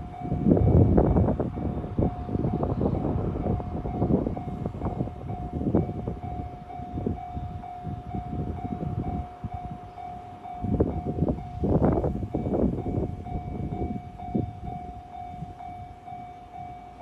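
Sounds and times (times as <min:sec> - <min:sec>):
level-crossing warning bell: 0:00.0 - 0:17.0
train wheels rumbling: 0:00.0 - 0:17.0.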